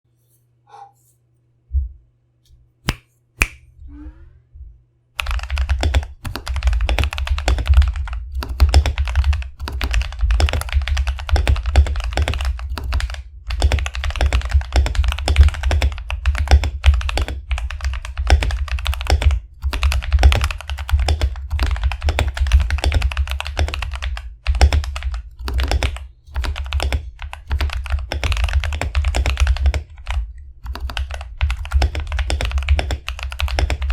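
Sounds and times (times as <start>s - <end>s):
mechanical keyboard typing: 5.2s - 33.9s.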